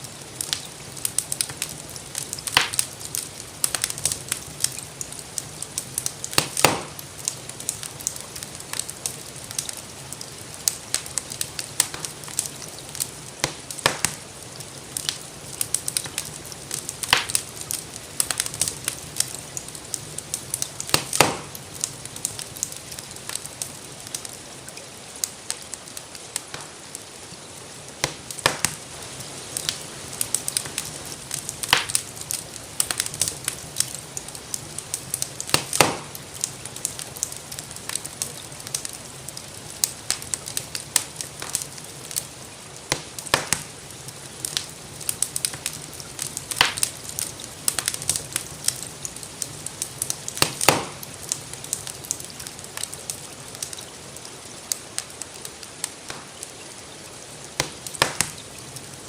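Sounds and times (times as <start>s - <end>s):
gentle rain hissing: 0.0s - 59.0s
wood fire crackling: 0.0s - 59.0s.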